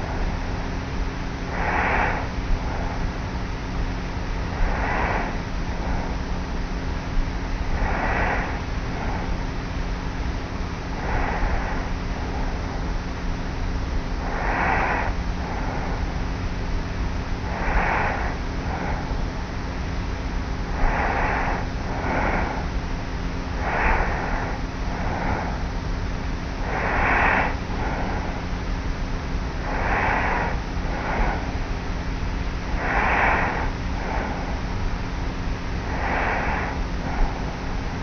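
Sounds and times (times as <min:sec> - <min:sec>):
faint hum: 0:00.0 - 0:38.0
tape hiss: 0:00.0 - 0:38.0.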